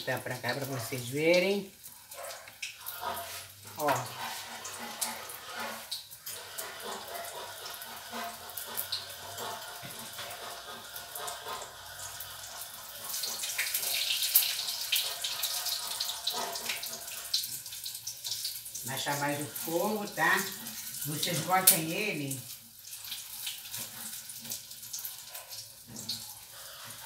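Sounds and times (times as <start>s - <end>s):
fritters sizzling in hot oil: 0.0s - 27.0s.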